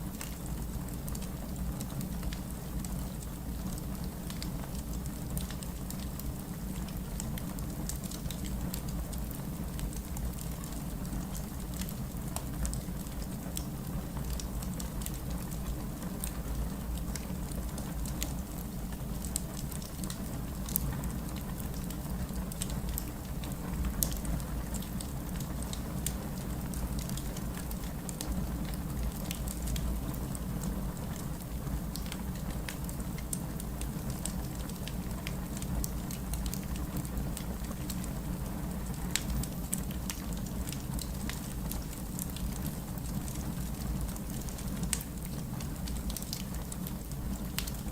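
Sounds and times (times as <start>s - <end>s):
steady rain: 0.0s - 47.9s
wood fire crackling: 0.0s - 47.9s.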